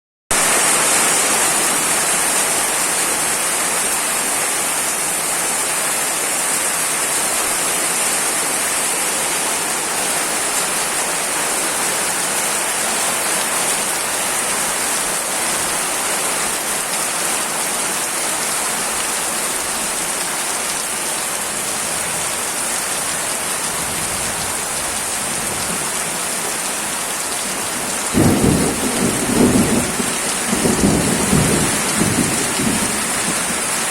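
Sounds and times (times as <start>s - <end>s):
heavy rain on hard surfaces: 0.3s - 33.9s.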